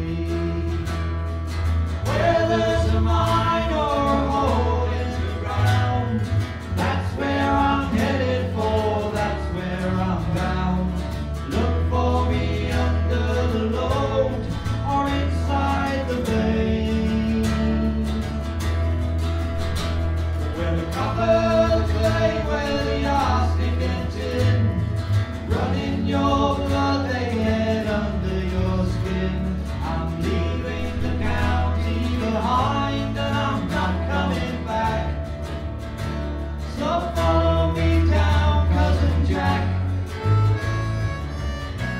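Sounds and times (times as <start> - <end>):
person singing: 0.0 - 1.1, 2.0 - 18.8, 19.6 - 35.3, 36.7 - 41.9
acoustic guitar: 0.0 - 41.9
bass line: 0.0 - 41.9.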